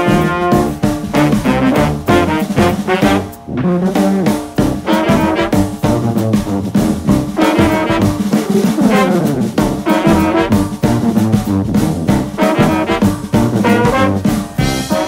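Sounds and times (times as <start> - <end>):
upbeat jazzy music with brass: 0.0 - 15.0.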